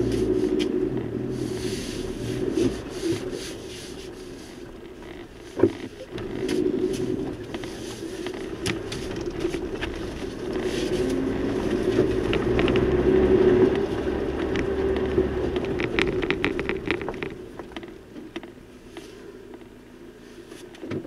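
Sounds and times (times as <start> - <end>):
stones crackling under tyres: 0.0 - 19.8
vehicle engine running: 0.0 - 21.0.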